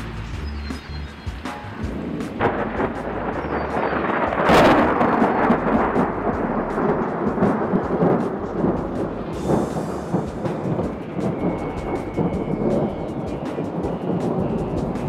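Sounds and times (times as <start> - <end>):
rain falling: 0.0 - 15.0
raindrops clicking: 0.0 - 15.0
rolling thunder: 1.6 - 15.0.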